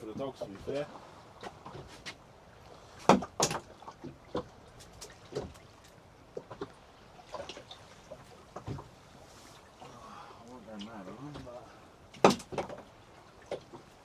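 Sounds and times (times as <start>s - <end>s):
knocks and clunks on a boat: 0.0s - 14.0s.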